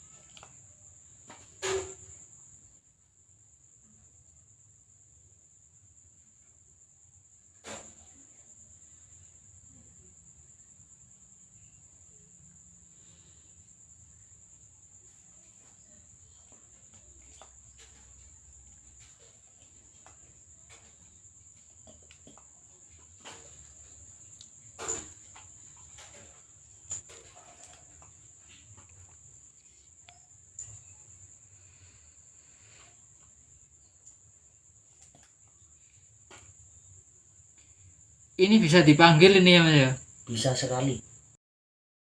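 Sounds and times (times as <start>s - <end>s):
cricket chirping: 0.0s - 41.4s.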